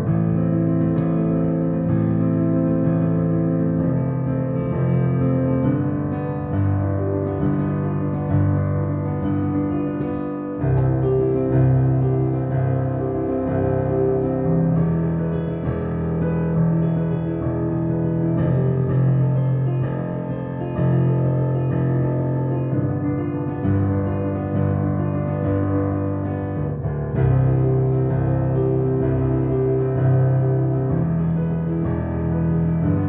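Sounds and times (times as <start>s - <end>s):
piano chords: 0.0s - 33.0s.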